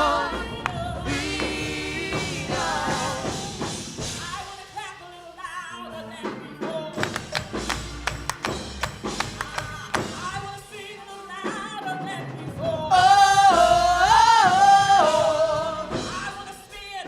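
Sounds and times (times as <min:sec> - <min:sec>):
gospel band playing: 0:00.0 - 0:17.0.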